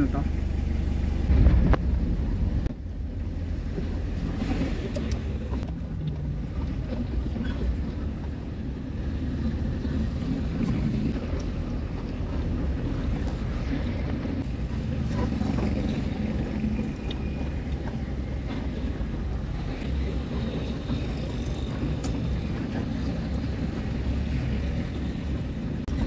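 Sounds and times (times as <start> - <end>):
van engine and road rumble: 0.0 - 26.0
wind noise: 1.2 - 26.0.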